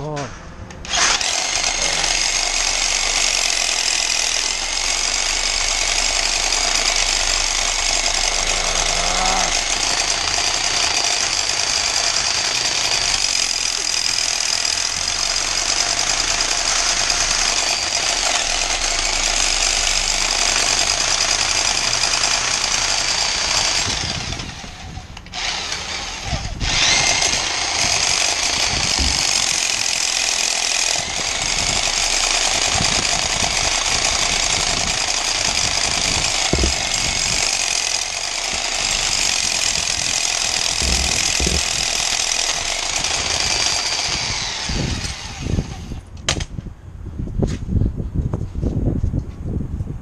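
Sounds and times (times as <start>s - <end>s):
power tool running: 0.0s - 46.5s.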